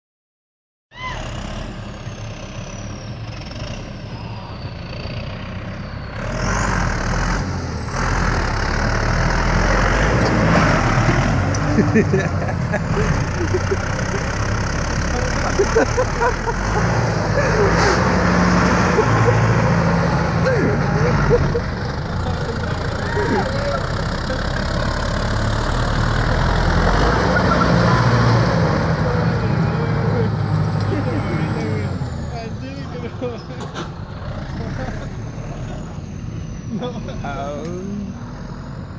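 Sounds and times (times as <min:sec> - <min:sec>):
tractor engine running: 0:01.2 - 0:38.9.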